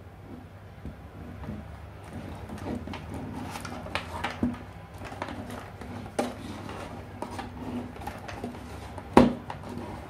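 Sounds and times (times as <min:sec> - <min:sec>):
cables rustling and bumping: 0:00.8 - 0:10.0.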